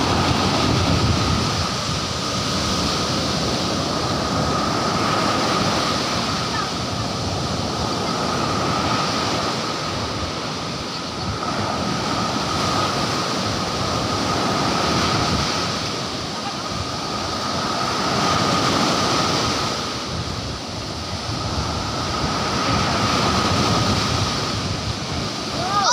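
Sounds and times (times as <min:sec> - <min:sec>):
surf breaking on a beach: 0:00.0 - 0:25.9.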